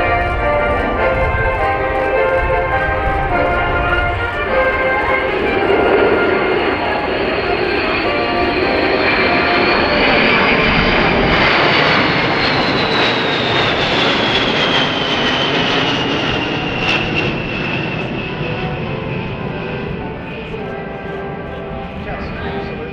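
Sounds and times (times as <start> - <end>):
jet bomber flyover roar: 0.0 - 22.9
jet engine whine falling: 0.0 - 22.9.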